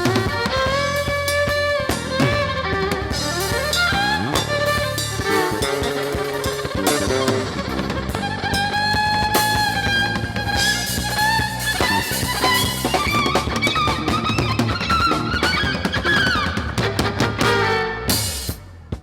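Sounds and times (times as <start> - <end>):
bass groove: 0.0 - 19.0
drum kit: 0.0 - 19.0.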